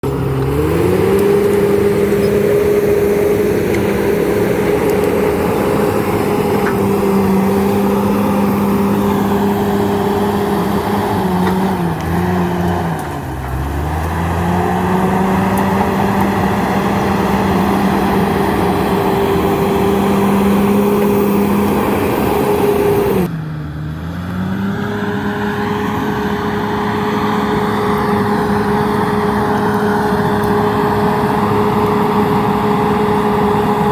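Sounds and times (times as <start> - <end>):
bulldozer diesel engine running: 0.0 - 33.9.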